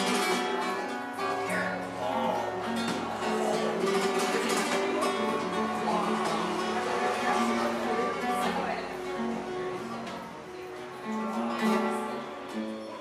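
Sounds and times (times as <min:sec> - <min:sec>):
flamenco acoustic guitar: 0:00.0 - 0:13.0.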